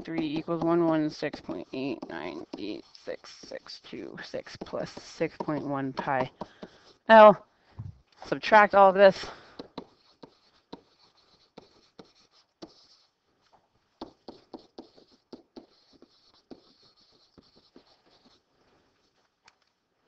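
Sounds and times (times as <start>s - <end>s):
stylus tapping and scratching on screen: 0.0s - 19.7s.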